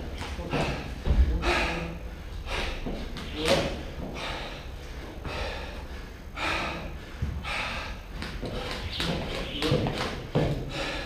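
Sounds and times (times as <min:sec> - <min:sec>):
heavy hard breathing: 0:00.0 - 0:11.0.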